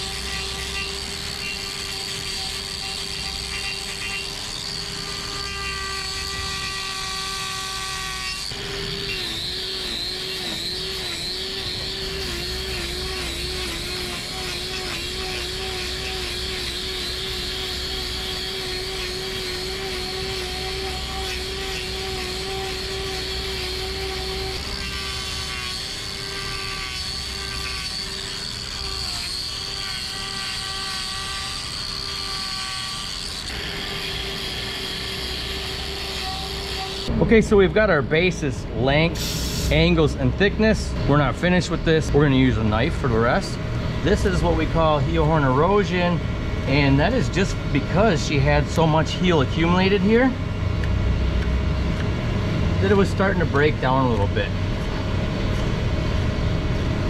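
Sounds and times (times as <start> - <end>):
angle grinder on hoof: 0.0 - 50.4, 52.8 - 54.6.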